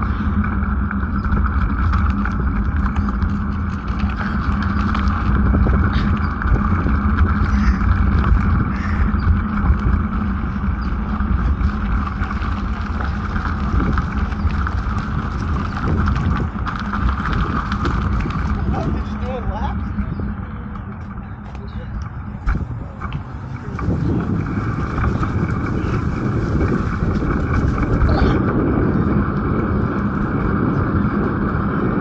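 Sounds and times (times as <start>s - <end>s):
bike rattles and clicks: 0.0s - 32.0s
bike riding rumble: 0.0s - 32.0s.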